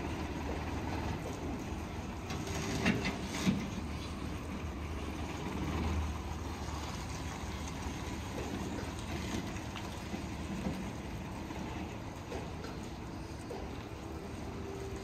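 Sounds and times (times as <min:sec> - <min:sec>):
heavy vehicles rumbling: 0:00.0 - 0:15.0.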